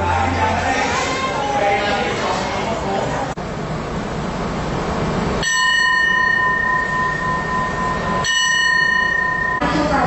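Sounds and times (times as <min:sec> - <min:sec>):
diesel railcar rumbling: 0:00.0 - 0:10.0.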